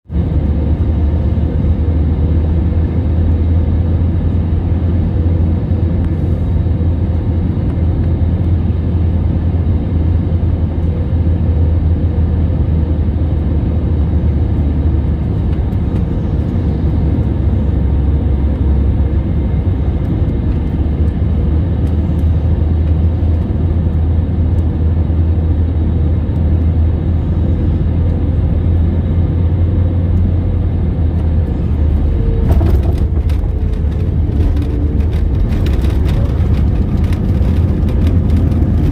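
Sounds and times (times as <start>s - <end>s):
jet cabin engine rumble: 0.1s - 38.9s.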